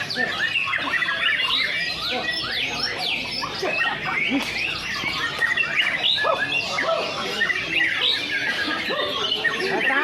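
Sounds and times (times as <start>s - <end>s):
bird song of whistles and chirps: 0.0s - 10.0s.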